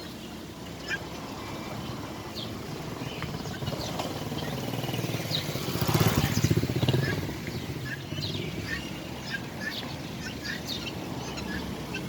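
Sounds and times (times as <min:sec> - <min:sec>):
bird chirps: 0:00.0 - 0:12.0
vehicle engine rumble: 0:00.0 - 0:12.0.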